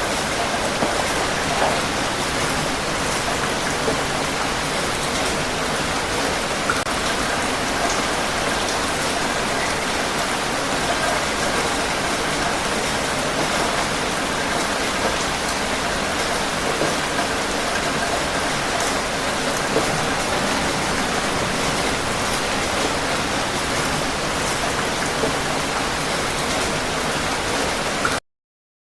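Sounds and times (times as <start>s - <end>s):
steady rain hiss: 0.0s - 28.1s
raindrops ticking: 0.1s - 28.2s.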